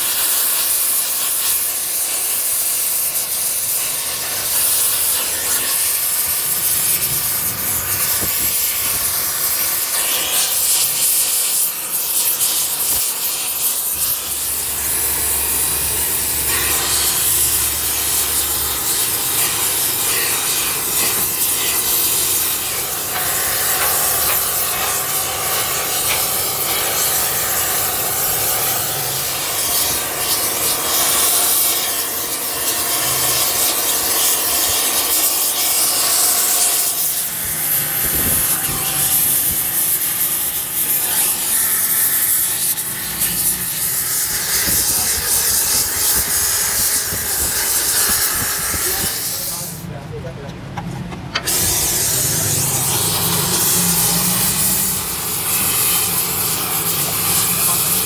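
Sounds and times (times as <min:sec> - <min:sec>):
welding torch flame hissing: 0:00.0 - 0:49.9, 0:51.3 - 0:58.0.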